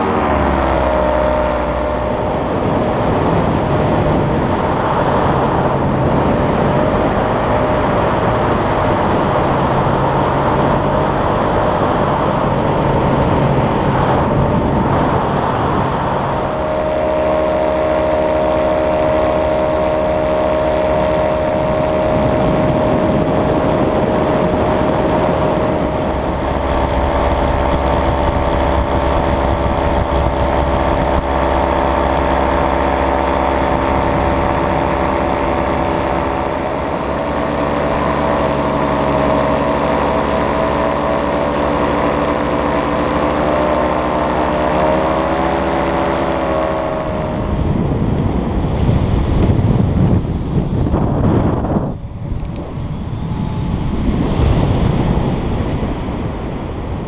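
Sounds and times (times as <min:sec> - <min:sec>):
two-stroke engine and propeller droning: 0:00.0 - 0:57.0
wind rushing over microphone: 0:00.0 - 0:57.0.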